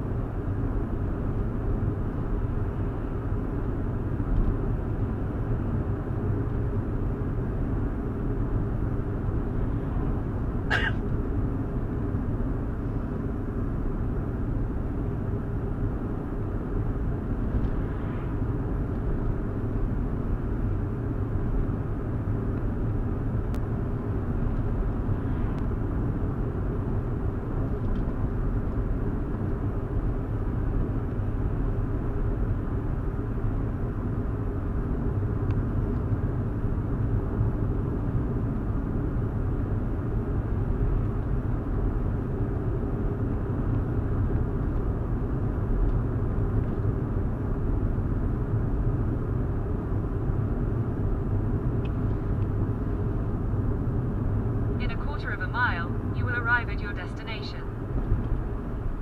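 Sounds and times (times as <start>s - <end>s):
car engine rumble: 0.0s - 59.0s
tyre road noise: 0.0s - 59.0s.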